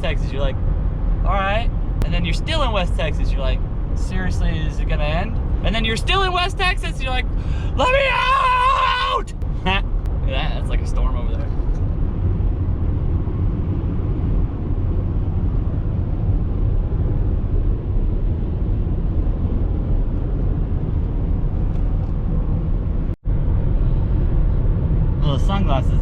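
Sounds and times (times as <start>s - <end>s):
road and engine rumble in car: 0.0s - 26.0s.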